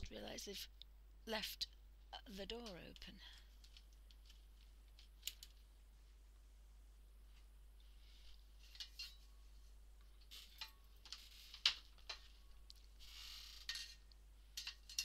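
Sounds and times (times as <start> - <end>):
soft rustling: 2.5 - 15.0.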